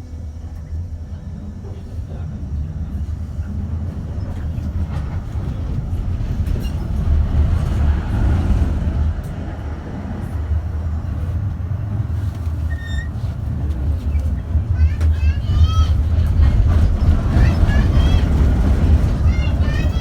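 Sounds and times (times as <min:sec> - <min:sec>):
tram rumbling along track: 0:00.0 - 0:20.0.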